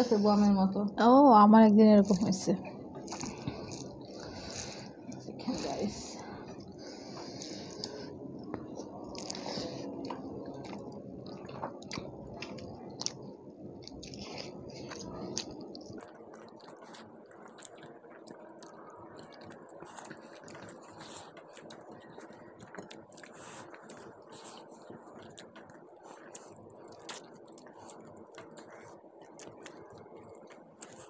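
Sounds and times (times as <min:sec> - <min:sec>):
people chewing: 0:02.9 - 0:31.0.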